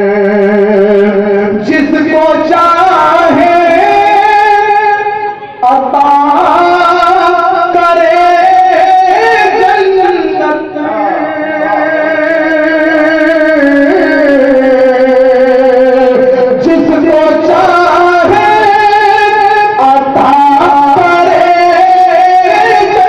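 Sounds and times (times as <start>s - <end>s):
person singing devotional melody: 0.0s - 23.0s.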